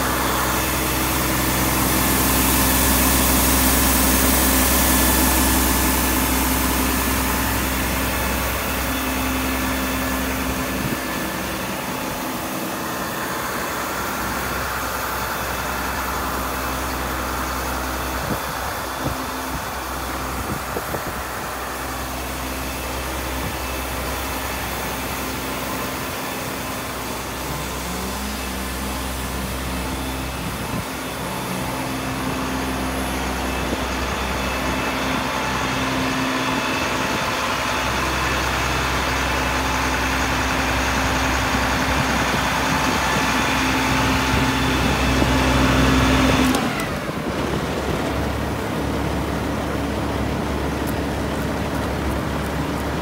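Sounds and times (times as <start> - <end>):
water stream hissing: 0.0 - 52.9
diesel engine running: 0.0 - 53.0.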